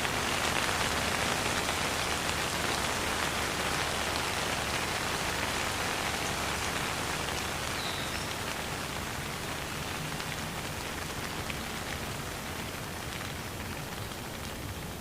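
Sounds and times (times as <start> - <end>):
rain pattering on surfaces: 0.0 - 15.0.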